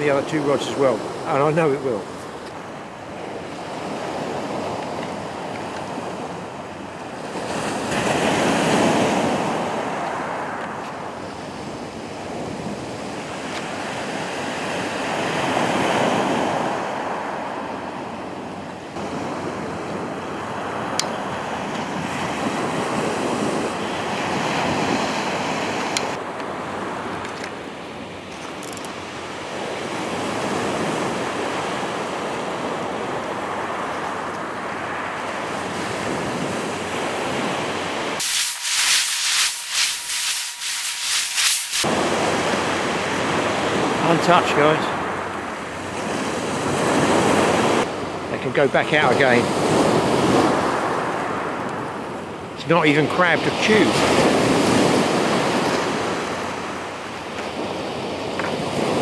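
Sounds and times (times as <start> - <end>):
sea waves breaking on beach: 0.0 - 28.1, 29.0 - 59.0.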